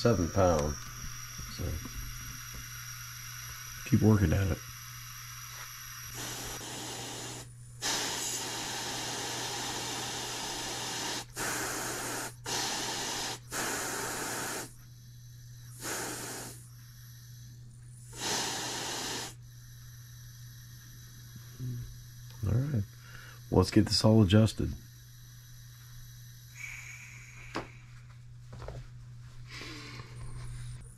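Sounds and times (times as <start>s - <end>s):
compressed air hissing: 0.0s - 28.0s.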